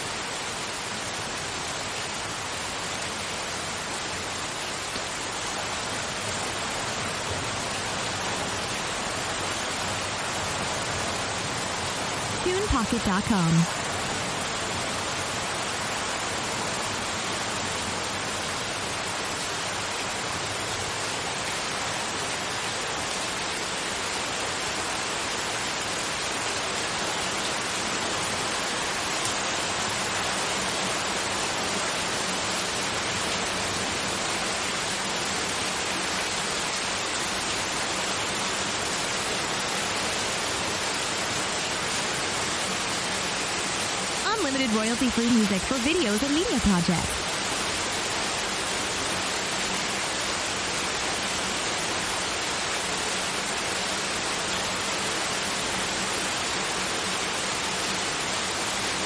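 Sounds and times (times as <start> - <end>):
steady white noise hiss: 0.0 - 59.0.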